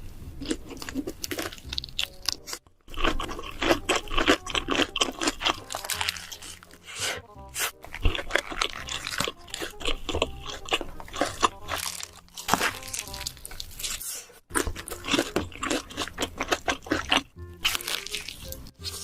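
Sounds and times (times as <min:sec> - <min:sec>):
crunchy chewing of crisp food: 0:00.3 - 0:19.0.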